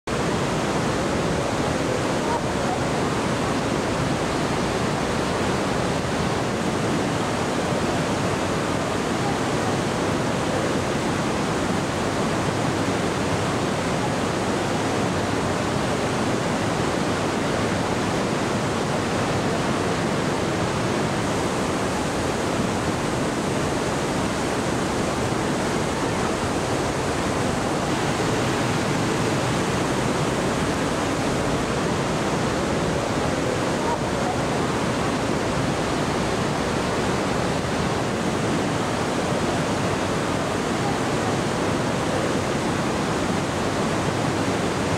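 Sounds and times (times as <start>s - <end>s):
water rushing down rock gorge: 0.1s - 44.9s.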